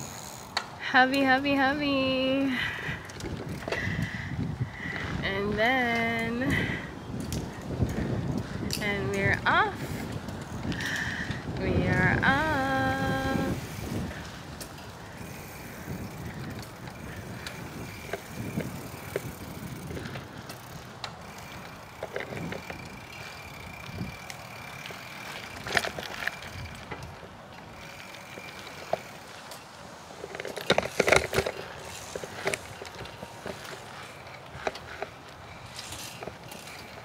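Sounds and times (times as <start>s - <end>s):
bicycle tyres on concrete: 0.0s - 37.0s
bike rattling and clunking: 0.0s - 37.0s.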